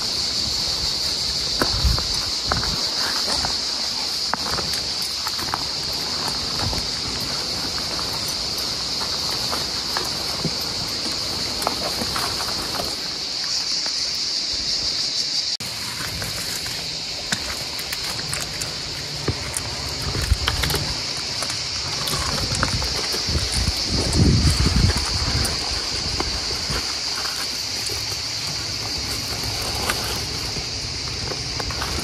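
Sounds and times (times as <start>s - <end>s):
cicadas singing: 0.0s - 32.0s.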